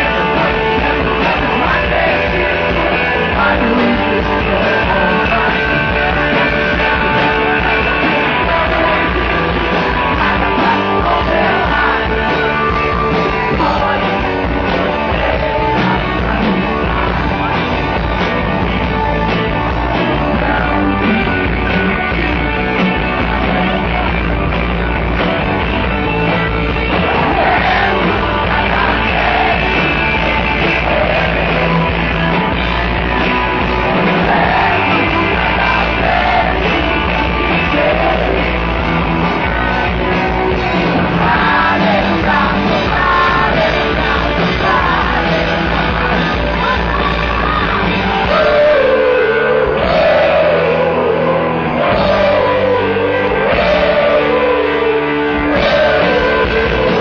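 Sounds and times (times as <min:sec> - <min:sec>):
rock song with singing: 0:00.0 - 0:57.0.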